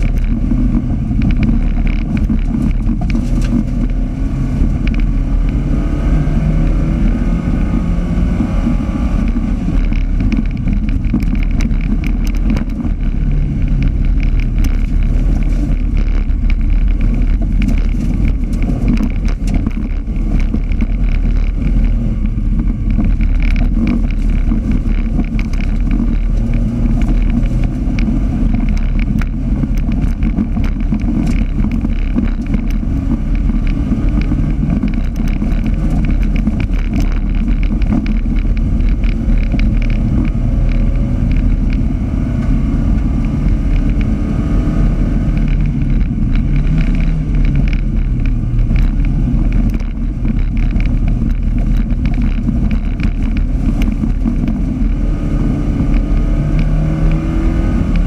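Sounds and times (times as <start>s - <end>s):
rattle of rapid clicks and knocks: 0.0s - 5.2s, 8.6s - 42.0s, 45.2s - 55.1s
race car engine revving: 0.0s - 58.0s.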